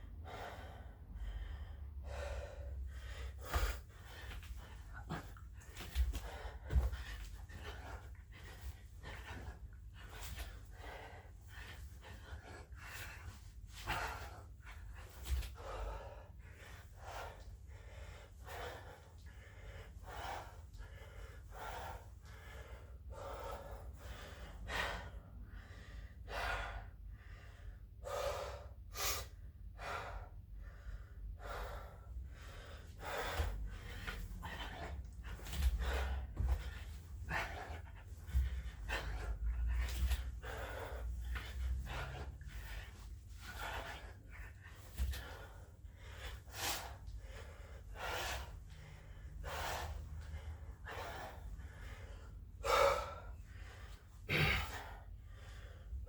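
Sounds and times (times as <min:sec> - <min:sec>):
man breathing hard and gasping: 0:00.0 - 0:56.0.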